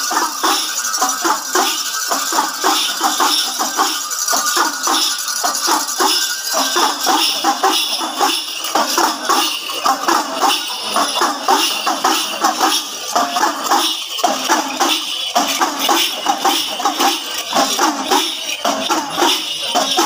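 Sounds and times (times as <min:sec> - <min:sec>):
bells and cymbals jingling: 0:00.0 - 0:20.0
hand drums beaten fast: 0:00.0 - 0:20.0.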